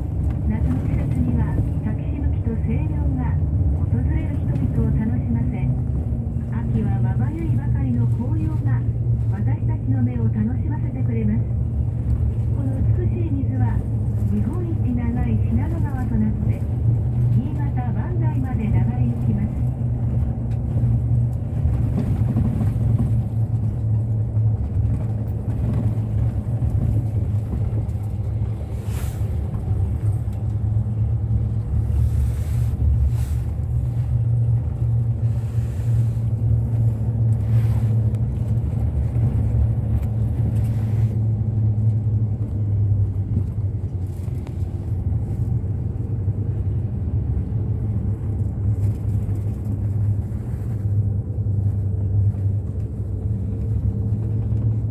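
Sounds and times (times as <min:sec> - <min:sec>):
bus engine and road rumble: 0:00.0 - 0:54.9.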